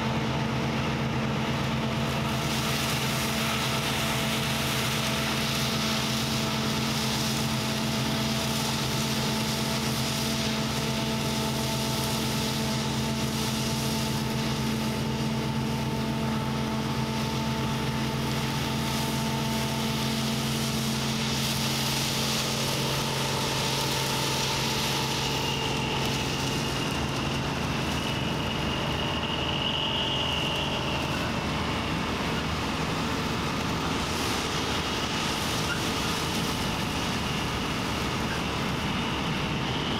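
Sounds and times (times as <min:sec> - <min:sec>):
combine harvester engine drone: 0:00.0 - 0:39.9
faint high whine: 0:00.0 - 0:39.9.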